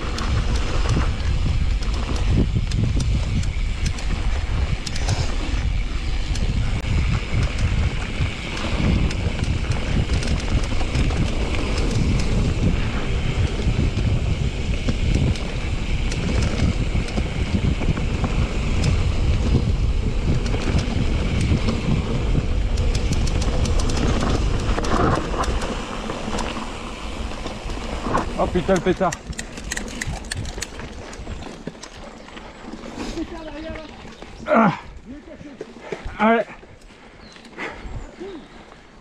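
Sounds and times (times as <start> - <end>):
bike clicks and rattles: 0.0 - 38.8
wind buffeting microphone: 0.0 - 39.0.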